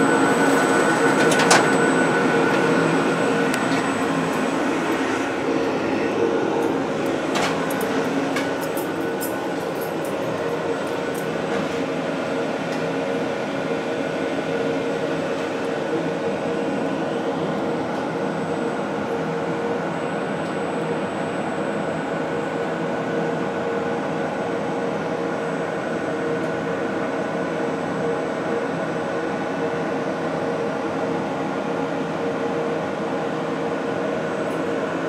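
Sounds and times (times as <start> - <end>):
machine whirring with high whine: 0.0 - 35.0.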